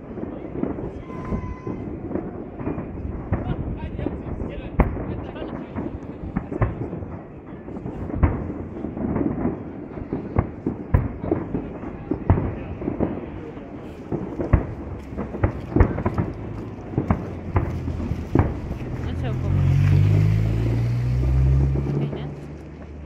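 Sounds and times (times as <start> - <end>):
fireworks exploding: 0.0 - 23.0.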